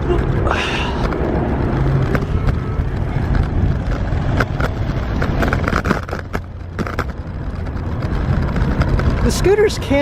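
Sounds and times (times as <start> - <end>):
scooter rattling over bumps: 0.0 - 10.0
wind and pavement rumble: 0.0 - 10.0.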